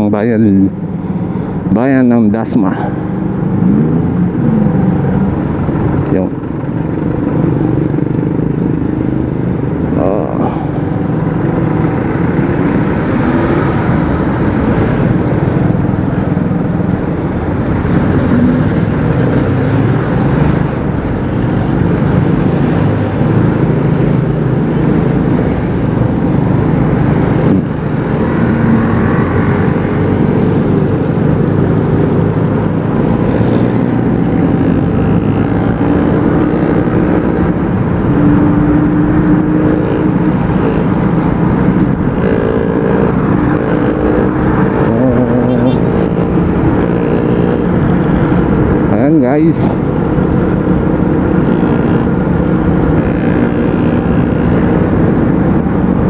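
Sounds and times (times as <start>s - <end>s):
road noise rushing: 0.0s - 56.0s
motorcycle engine running: 2.9s - 49.1s.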